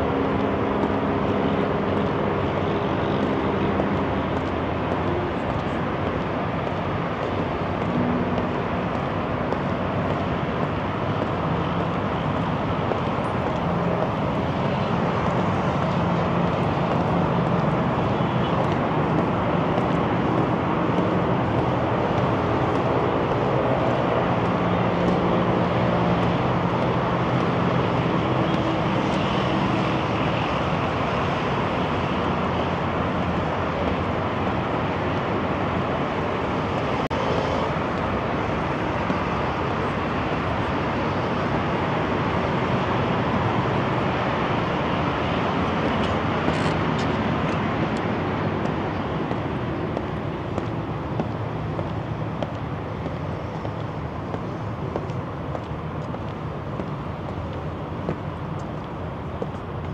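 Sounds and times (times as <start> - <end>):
expressway traffic noise: 0.0 - 59.9.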